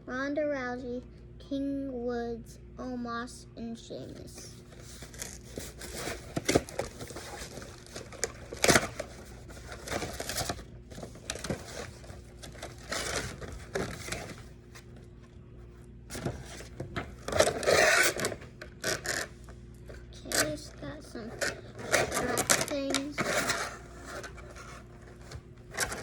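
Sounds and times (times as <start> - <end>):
plastic and cardboard rustling: 4.1 - 26.0.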